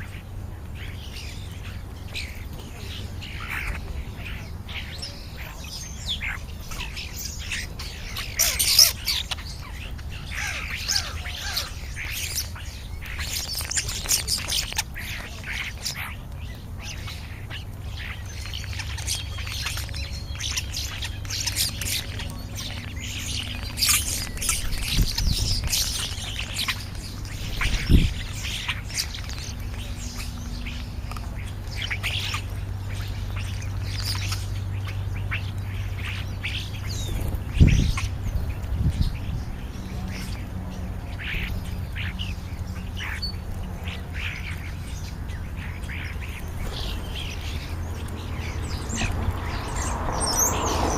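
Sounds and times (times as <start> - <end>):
birds chattering: 0.0 - 50.9.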